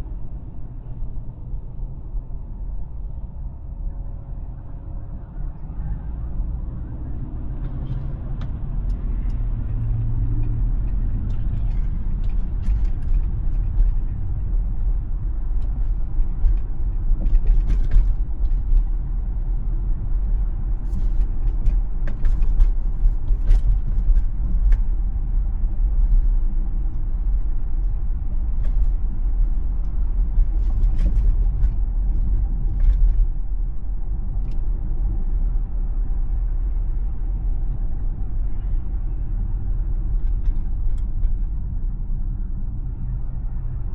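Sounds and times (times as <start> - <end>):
road and tyre rumble: 0.0 - 43.9.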